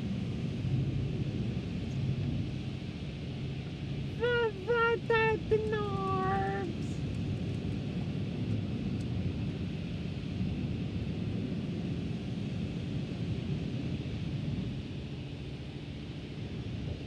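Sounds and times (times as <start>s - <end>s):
automatic car wash rumble: 0.0s - 17.0s.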